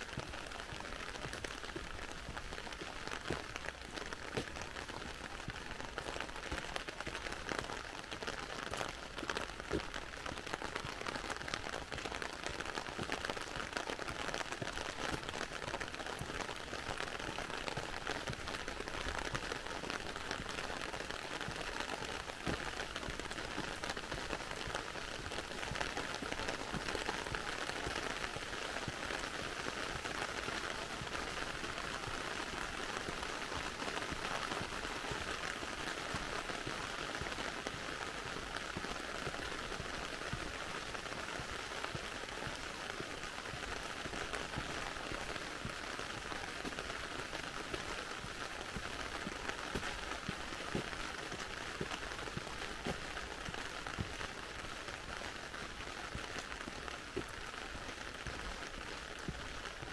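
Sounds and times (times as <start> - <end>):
heavy rain on pavement: 0.0 - 59.9.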